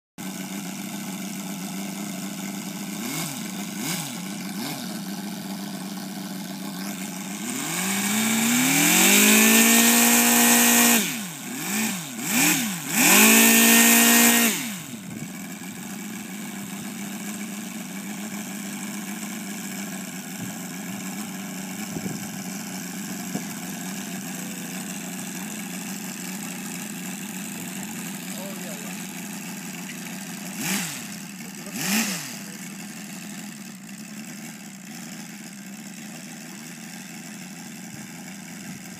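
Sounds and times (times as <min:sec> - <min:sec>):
model radial engine revving: 0:00.2 - 0:38.9.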